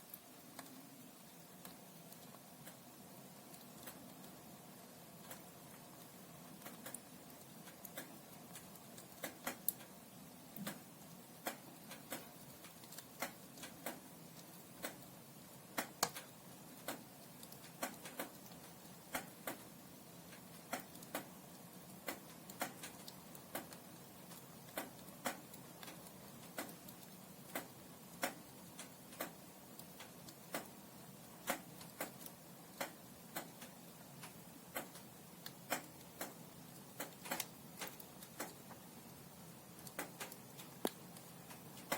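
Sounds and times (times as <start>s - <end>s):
firewood crackling and popping: 0.0s - 41.9s.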